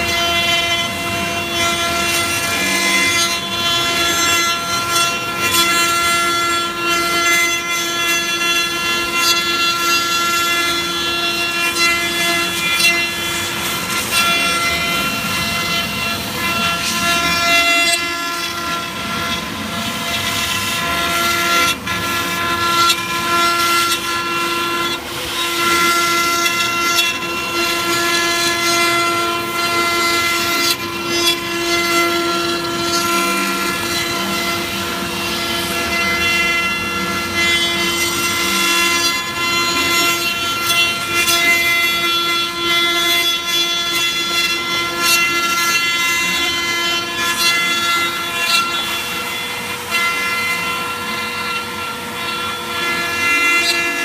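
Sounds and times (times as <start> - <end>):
bit cutting wood: 0.0 - 54.0
router spindle high whine: 0.0 - 54.0.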